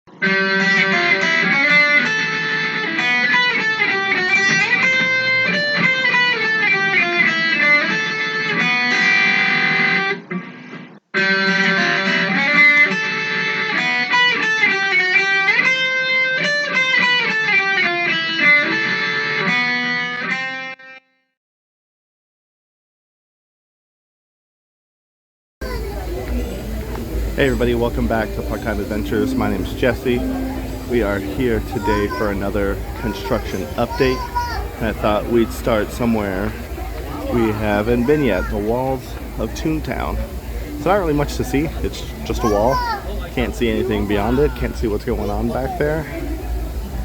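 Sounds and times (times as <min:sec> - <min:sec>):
plucked electric guitar melody: 0:00.1 - 0:21.2, 0:25.6 - 0:47.0.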